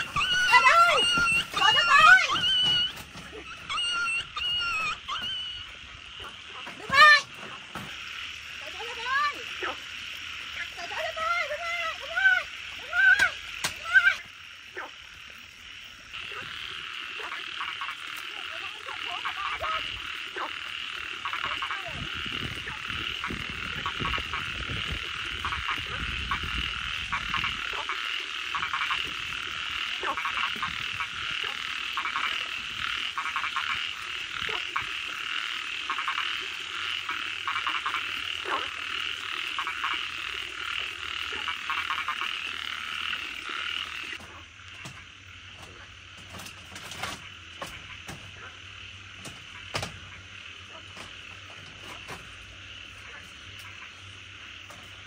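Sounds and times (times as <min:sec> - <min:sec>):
loud pitched calls: 0:00.0 - 0:45.8
frogs croaking and trilling: 0:00.0 - 0:55.0.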